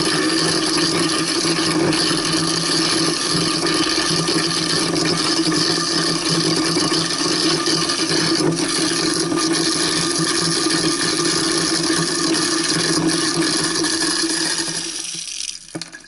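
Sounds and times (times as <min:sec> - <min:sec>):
garbage disposal grinding bones: 0:00.0 - 0:16.0
tap water flowing: 0:00.0 - 0:16.0.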